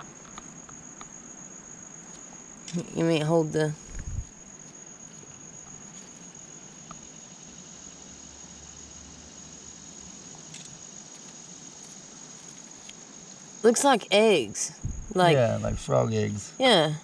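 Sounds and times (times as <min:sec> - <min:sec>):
insects trilling: 0:00.0 - 0:17.0
faint hiss: 0:02.0 - 0:17.0.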